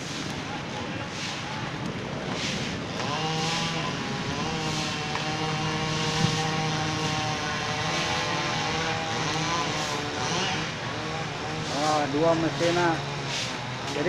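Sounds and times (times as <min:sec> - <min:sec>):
chainsaws cutting wood: 0:01.1 - 0:14.0.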